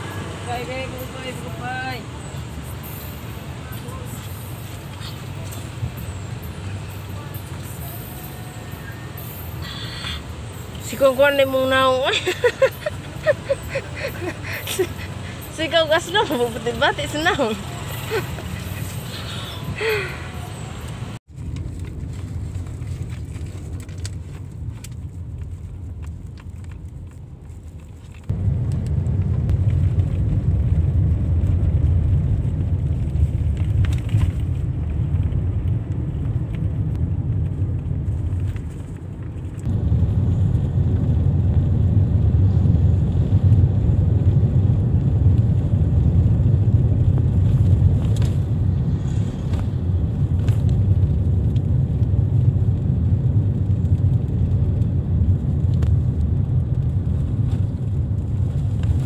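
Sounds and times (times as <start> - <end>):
car interior road and engine noise: 0.0 - 59.0.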